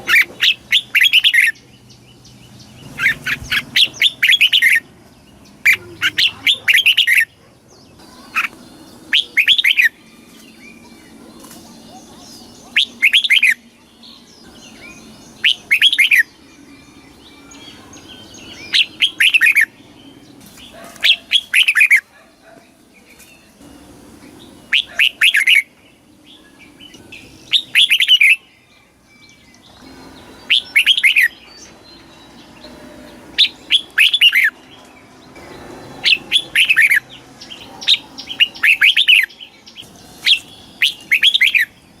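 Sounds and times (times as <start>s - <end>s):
bulbul singing whistled phrases: 0.0s - 22.1s, 24.2s - 42.0s.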